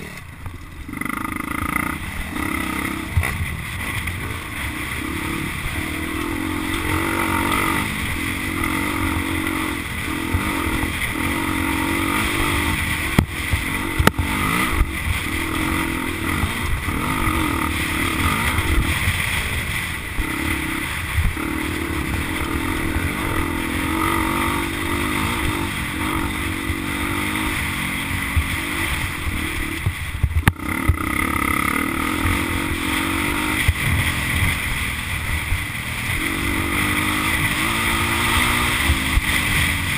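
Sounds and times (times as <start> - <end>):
dirt bike engine revving: 0.0 - 39.9
wind noise: 2.0 - 39.9.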